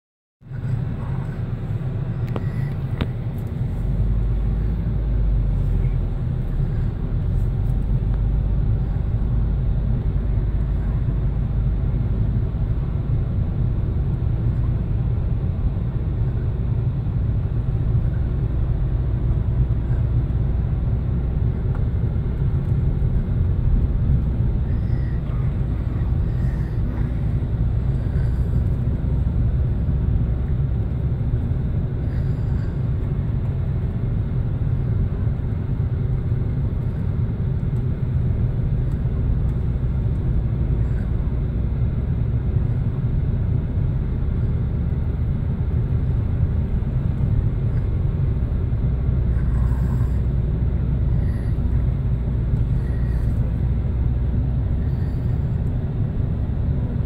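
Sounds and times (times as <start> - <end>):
engine and tyre rumble: 0.4 - 57.0.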